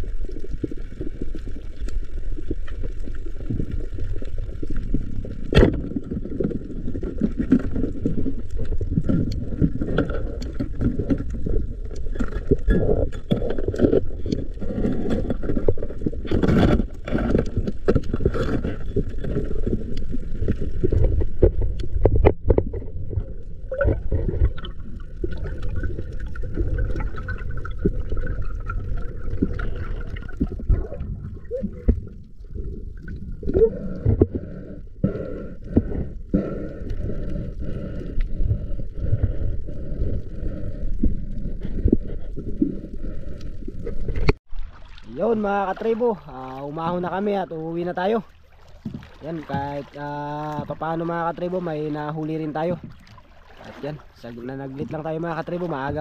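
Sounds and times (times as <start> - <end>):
muffled water sloshing: 0.0 - 56.0.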